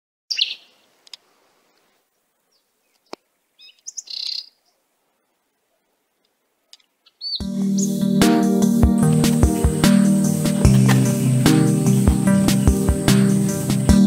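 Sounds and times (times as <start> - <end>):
bird chirping: 0.3 - 4.9, 6.7 - 14.0.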